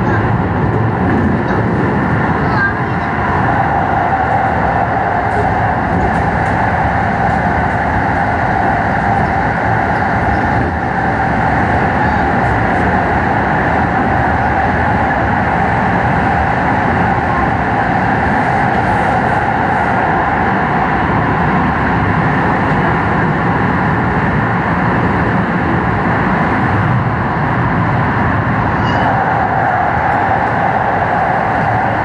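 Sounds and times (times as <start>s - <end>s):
electric train rolling on rails: 0.0s - 32.0s.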